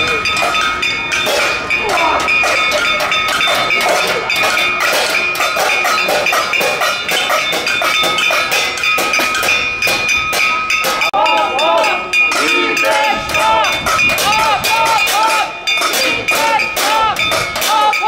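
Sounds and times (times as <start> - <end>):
people banging pot lids: 0.0 - 18.0.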